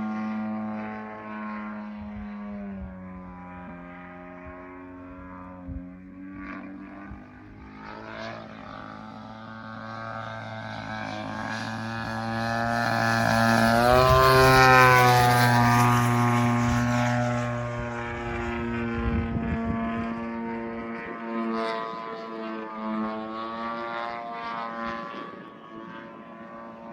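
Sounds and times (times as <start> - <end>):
propeller aircraft flying past: 0.0 - 26.9.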